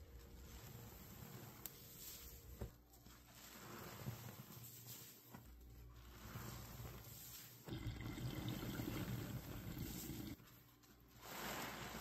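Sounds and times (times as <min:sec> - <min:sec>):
sponge squishing: 0:00.0 - 0:12.0.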